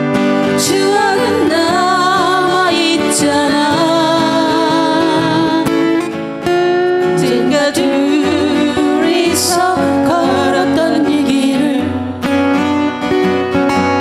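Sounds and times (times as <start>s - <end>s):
person singing: 0.0s - 6.1s, 7.0s - 12.3s
acoustic guitar ballad: 0.0s - 14.0s.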